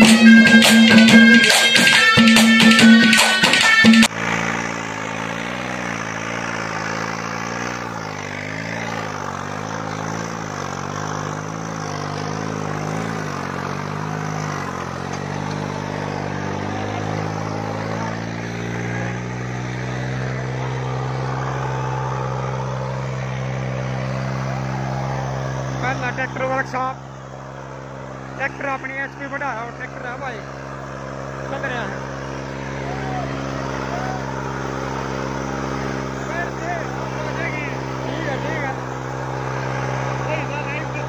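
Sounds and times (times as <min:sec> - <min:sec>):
tractor diesel engine labouring: 0:00.0 - 0:41.0.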